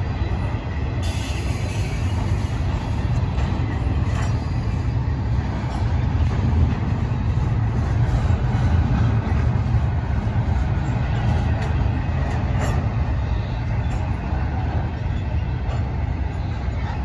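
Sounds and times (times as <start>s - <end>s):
train rolling over bridge: 0.0s - 17.0s
wheels clacking over rails: 1.0s - 17.0s.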